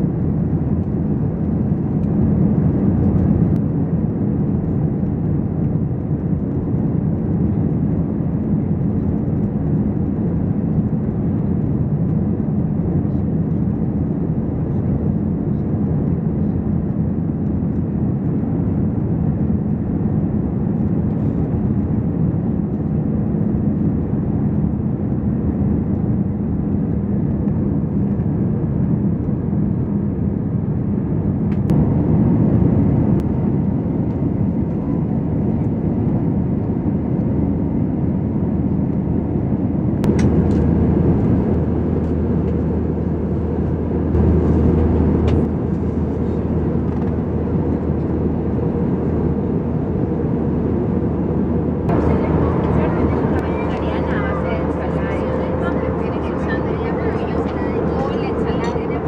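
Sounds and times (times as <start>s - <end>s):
airplane cabin engine noise: 0.0s - 59.0s.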